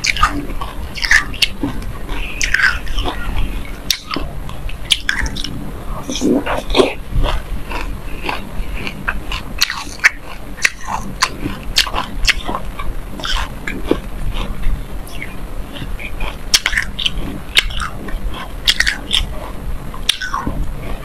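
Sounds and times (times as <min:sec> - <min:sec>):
wet mouth clicks: 0:00.0 - 0:20.6
chewing crunches: 0:00.0 - 0:21.0.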